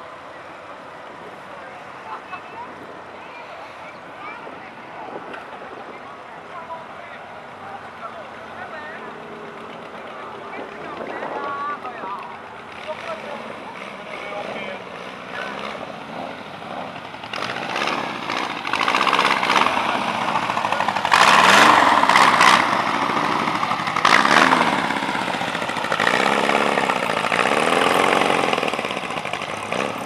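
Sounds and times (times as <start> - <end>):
trike engines passing by: 0.0 - 30.0.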